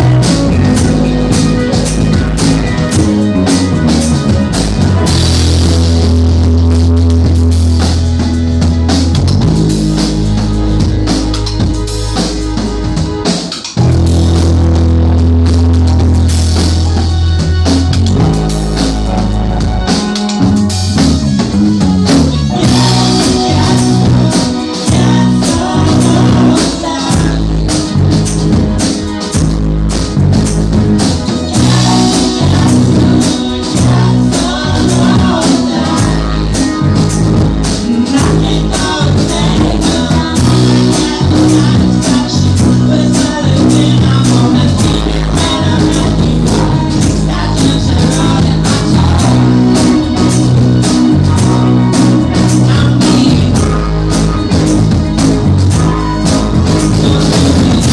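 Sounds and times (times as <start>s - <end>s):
drums with steady beat: 0.0s - 57.9s
electric guitar: 0.0s - 57.9s
person singing: 0.0s - 57.9s.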